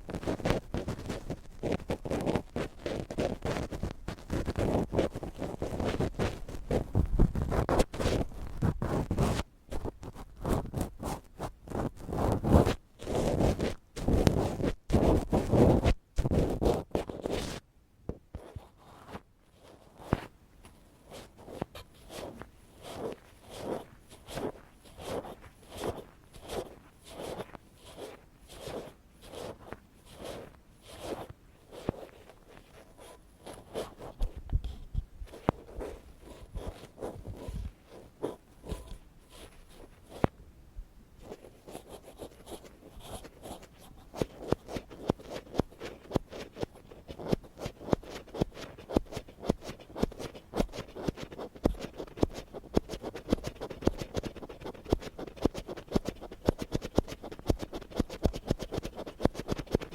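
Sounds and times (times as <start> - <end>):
ear pick scratching: 0.0 - 17.6, 18.4 - 40.3, 41.2 - 59.9.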